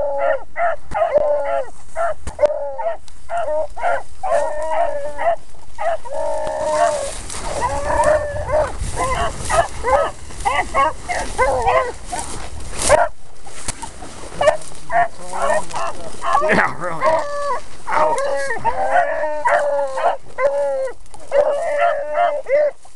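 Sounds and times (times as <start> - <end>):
hounds baying and yelping: 0.0 - 13.2, 14.3 - 22.9.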